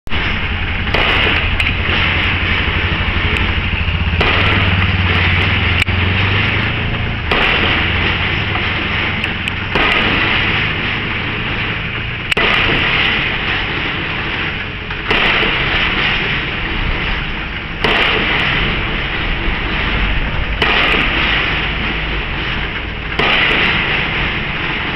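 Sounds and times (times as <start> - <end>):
pile driver hammer striking: 0.1 - 17.2, 17.8 - 19.0, 20.6 - 24.9
rig engine running: 0.1 - 24.9.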